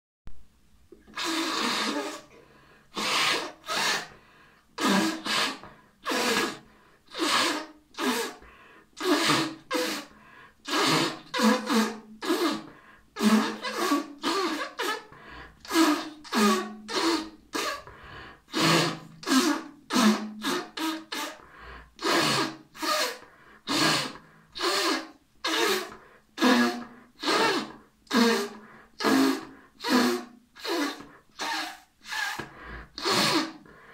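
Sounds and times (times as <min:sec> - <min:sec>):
man blowing his nose: 0:01.0 - 0:04.2, 0:04.8 - 0:33.9.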